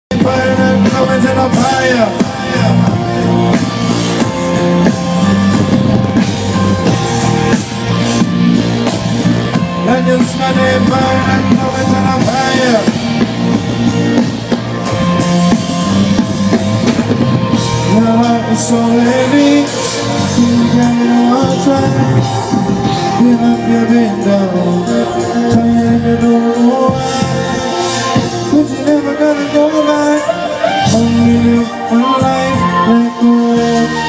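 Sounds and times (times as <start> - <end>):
drum kit: 0.1 - 34.0
guitar: 0.1 - 34.0
person singing: 0.1 - 34.0.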